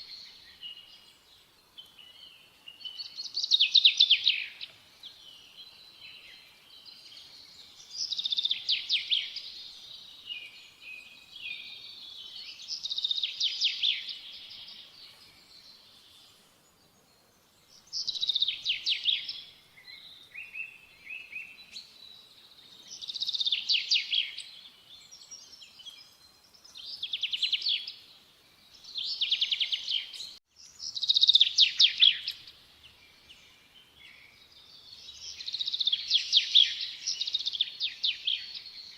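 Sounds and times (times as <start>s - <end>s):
soft bird chirps: 0.0s - 38.9s.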